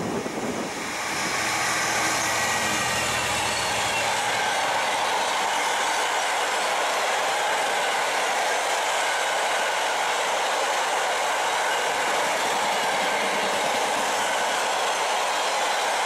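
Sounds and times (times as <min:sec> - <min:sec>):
freight train rolling past: 0:00.0 - 0:16.0.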